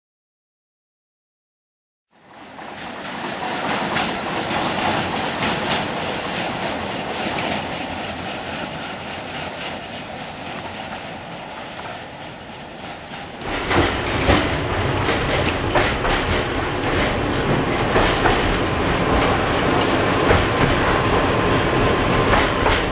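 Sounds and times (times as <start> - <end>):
tram wheels clattering on rails: 2.2 - 22.9
wheels clicking over rail joints: 2.6 - 22.9
tram interior rumble: 2.8 - 22.9.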